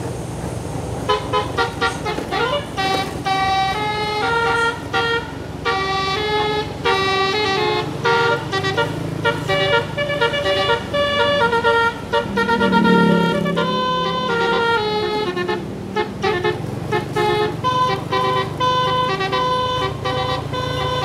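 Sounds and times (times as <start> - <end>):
bus engine running: 0.0 - 21.0
multi-tone air horn tune: 1.1 - 21.0.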